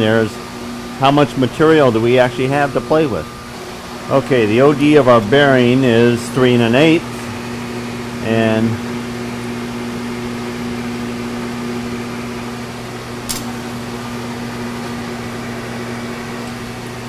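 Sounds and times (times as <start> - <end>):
milling machine running: 0.0 - 17.0
phase converter hum: 0.0 - 17.0
vacuum rushing air: 0.0 - 17.0.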